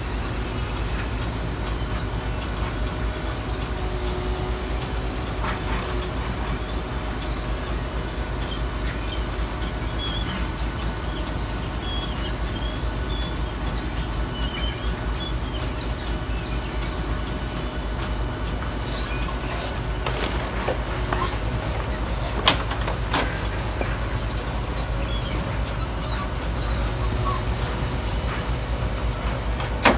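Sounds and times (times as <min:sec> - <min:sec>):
diesel truck engine rumbling: 0:00.0 - 0:29.9.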